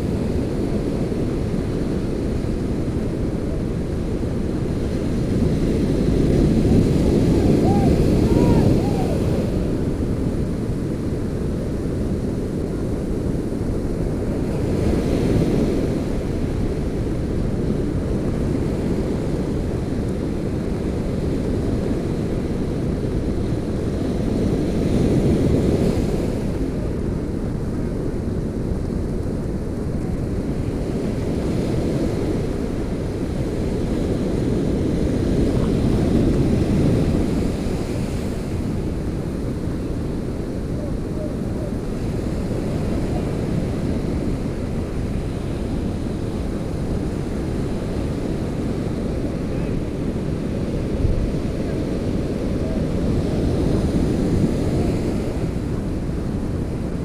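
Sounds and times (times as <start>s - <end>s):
surf washing up sandy beach: 0.0s - 57.0s
wind rumbling on microphone: 0.0s - 57.0s.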